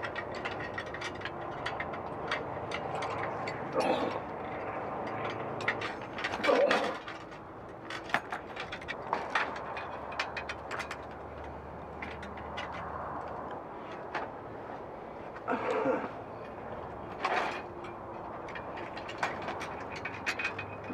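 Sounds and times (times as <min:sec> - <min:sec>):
wrenches clinking on metal: 0:00.0 - 0:14.0, 0:16.4 - 0:20.9
metal clatter: 0:00.0 - 0:14.3, 0:15.8 - 0:20.9.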